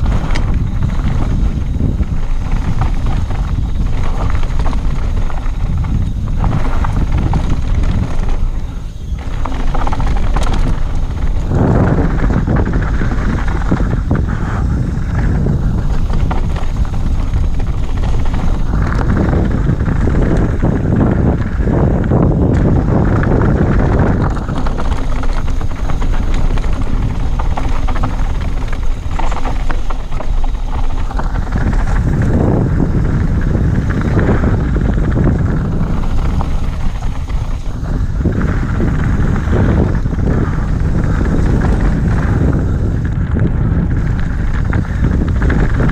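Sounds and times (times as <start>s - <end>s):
bike tyres rumbling on gravel: 0.0s - 45.9s
wind buffeting microphone: 0.0s - 45.9s.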